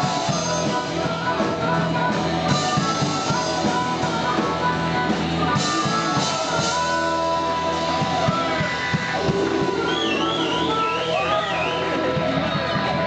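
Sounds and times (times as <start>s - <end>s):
blues-rock band playing: 0.0s - 13.0s
steady drum beat: 0.0s - 13.0s.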